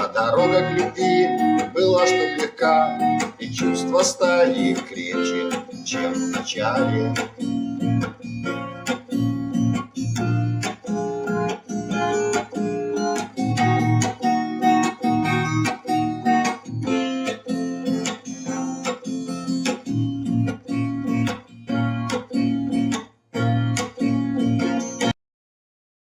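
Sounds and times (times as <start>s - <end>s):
acoustic guitar strumming: 0.0s - 25.2s.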